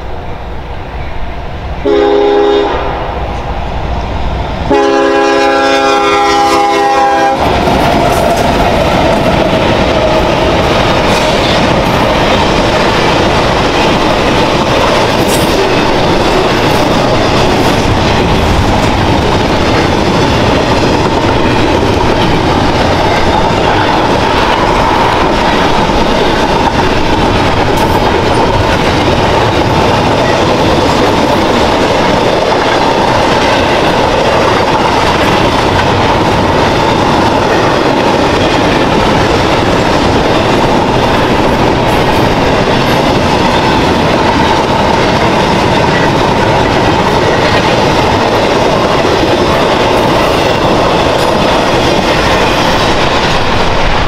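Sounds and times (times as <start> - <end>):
freight train cars rolling past: 0.0 - 54.0.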